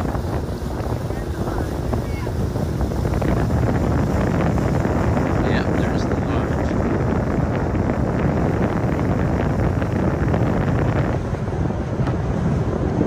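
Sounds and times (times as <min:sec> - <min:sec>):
boat engine: 0:00.0 - 0:13.0
water noise: 0:00.0 - 0:13.0
wind buffeting microphone: 0:00.0 - 0:13.0.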